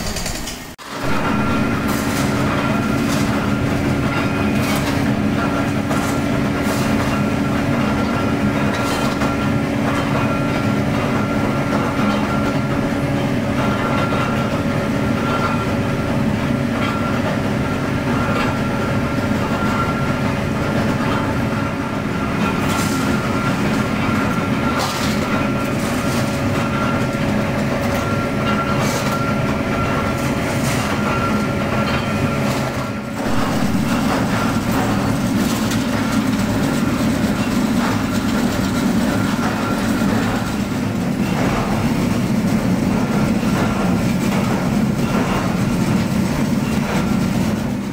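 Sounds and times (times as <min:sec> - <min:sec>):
constant machine whine: 0:00.0 - 0:47.9
factory machinery running: 0:00.0 - 0:47.9.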